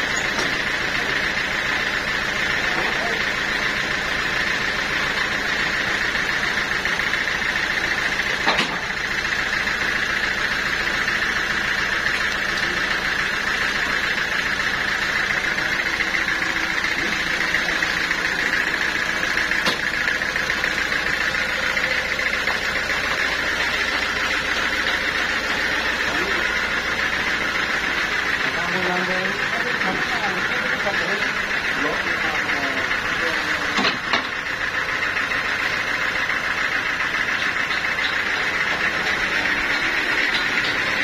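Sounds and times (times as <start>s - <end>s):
band saw running: 0.0s - 41.0s.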